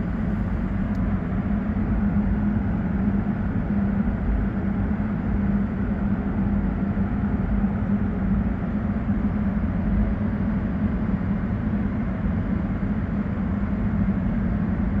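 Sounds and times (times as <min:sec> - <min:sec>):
engine running with low rumble: 0:00.0 - 0:15.0.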